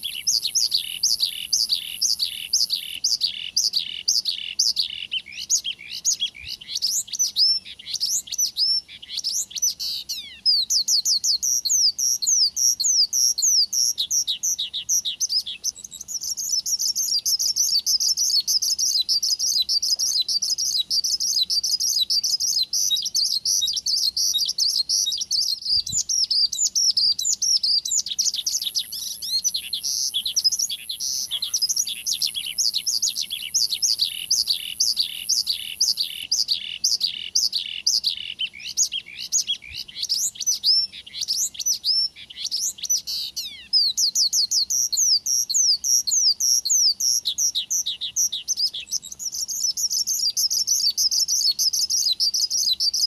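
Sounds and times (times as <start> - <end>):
lark singing with fast trill: 0.0 - 53.0.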